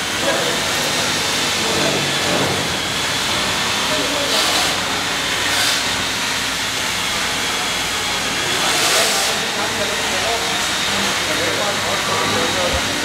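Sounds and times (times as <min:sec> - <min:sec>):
steady hissing room noise: 0:00.0 - 0:13.0.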